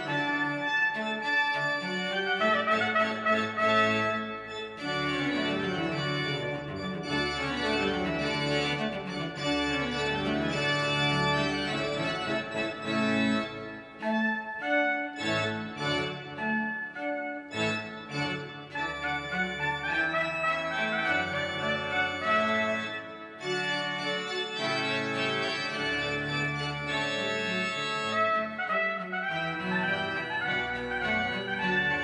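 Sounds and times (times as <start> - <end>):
pipe organ playing chords: 0.0 - 32.0.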